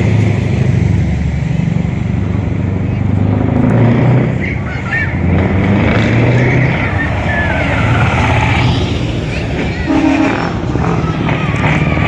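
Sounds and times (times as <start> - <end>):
truck diesel engines droning: 0.0 - 12.0.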